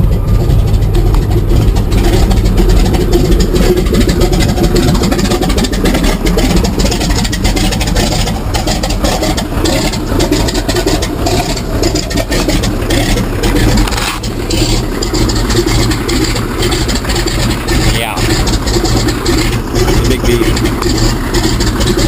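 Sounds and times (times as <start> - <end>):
floatplane engine droning: 0.0 - 22.0.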